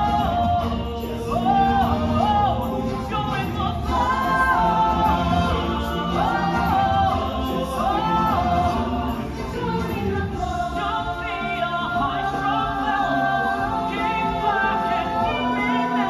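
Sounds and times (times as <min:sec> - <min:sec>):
musical accompaniment: 0:00.0 - 0:16.0
voices singing long notes: 0:00.0 - 0:16.0.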